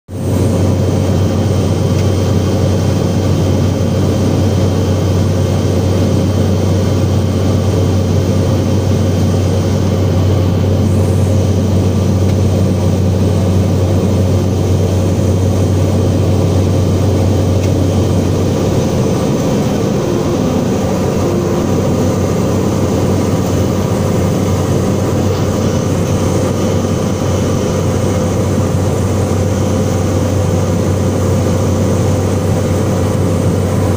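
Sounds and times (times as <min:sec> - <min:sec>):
aircraft engine and propeller droning: 0:00.1 - 0:33.9.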